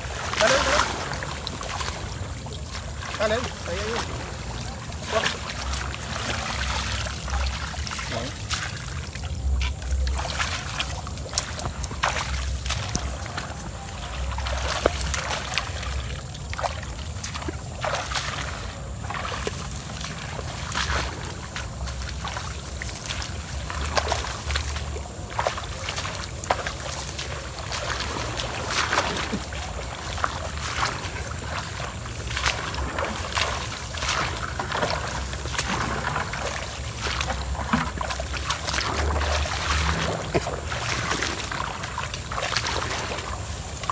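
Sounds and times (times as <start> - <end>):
wet footsteps: 0.0 - 43.9.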